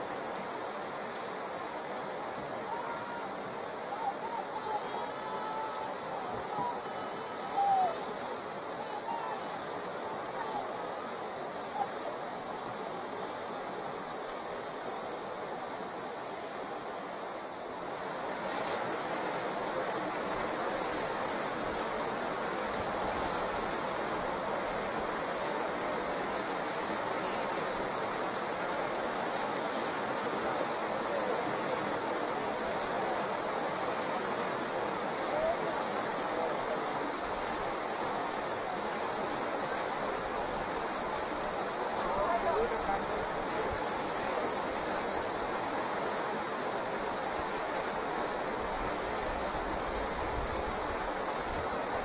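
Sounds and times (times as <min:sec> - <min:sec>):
river rapids rushing over rocks: 0:00.0 - 0:52.0.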